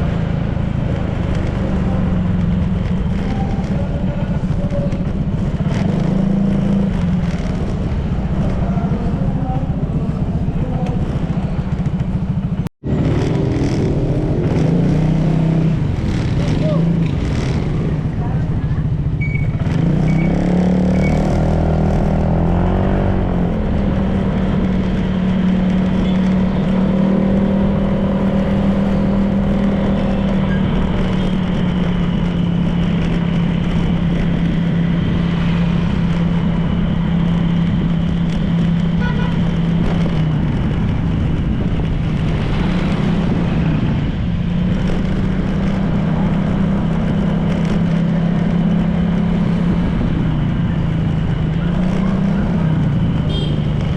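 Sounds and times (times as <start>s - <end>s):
road and wind noise: 0.0s - 53.9s
scooter engine running: 0.0s - 53.9s.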